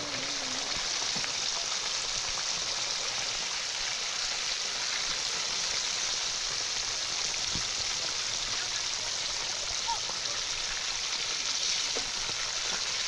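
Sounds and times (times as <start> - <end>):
fish frying sizzle: 0.0 - 13.0.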